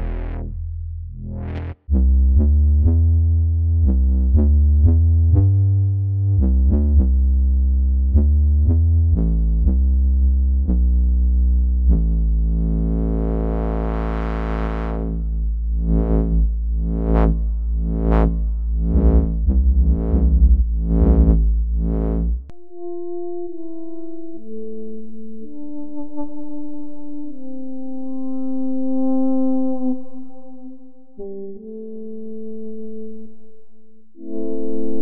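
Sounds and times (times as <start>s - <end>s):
synth bass notes: 0.0s - 35.0s.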